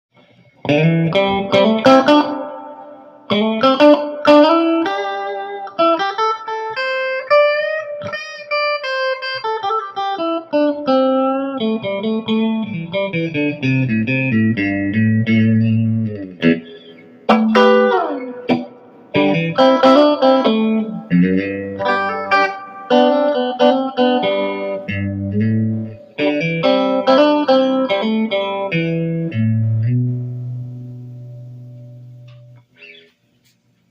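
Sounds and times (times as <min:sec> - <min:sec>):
electric guitar playing: 0:00.6 - 0:33.3.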